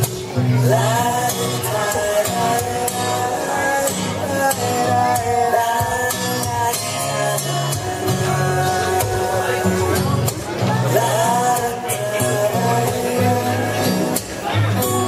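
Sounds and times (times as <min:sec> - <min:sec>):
person singing slow song: 0:00.0 - 0:15.0.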